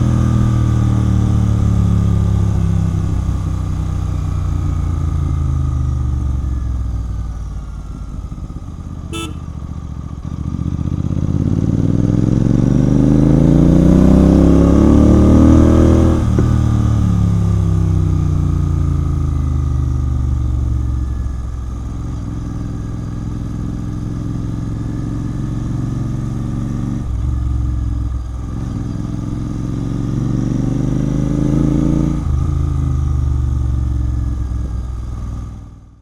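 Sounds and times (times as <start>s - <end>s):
motorcycle engine running: 0.0s - 14.4s, 15.9s - 36.0s.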